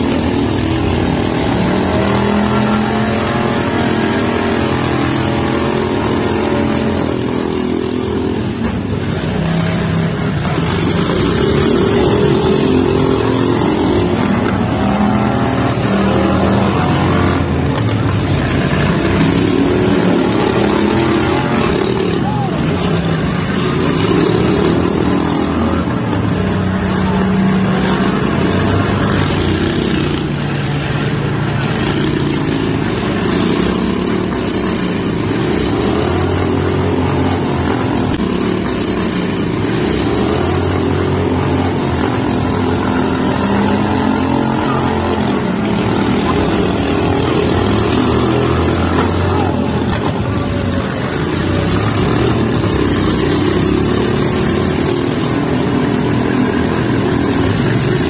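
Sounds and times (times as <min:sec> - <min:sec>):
small tractor engines revving: 0:00.0 - 0:58.0.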